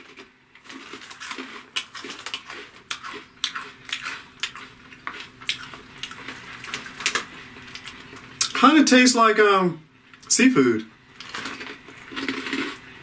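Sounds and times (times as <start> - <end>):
rice cracker crunching: 0.0 - 8.6, 11.2 - 13.0.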